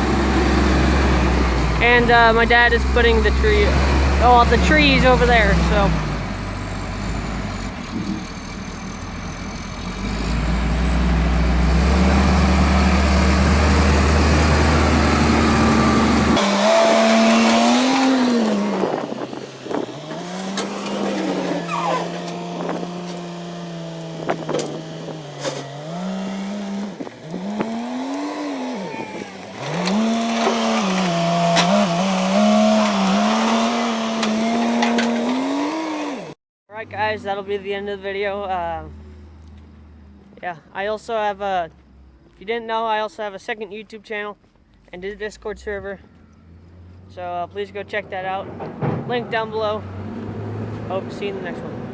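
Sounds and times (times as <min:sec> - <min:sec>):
diesel engine rumbling: 0:00.0 - 0:51.9.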